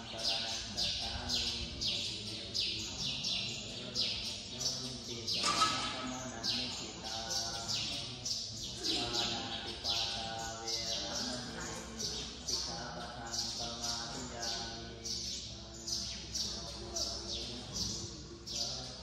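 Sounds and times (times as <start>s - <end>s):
bird chirping falling calls: 0.0s - 19.0s
low voices: 0.0s - 19.0s.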